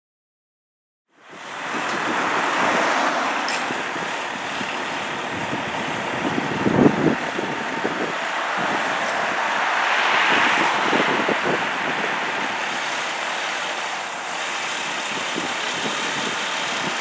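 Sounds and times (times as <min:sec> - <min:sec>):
fire engine running: 0:01.1 - 0:17.0
street traffic: 0:01.1 - 0:17.0.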